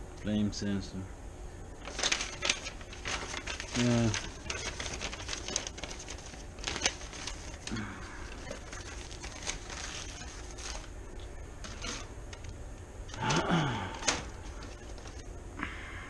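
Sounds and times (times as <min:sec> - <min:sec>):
packaging rustling: 0:01.8 - 0:15.3.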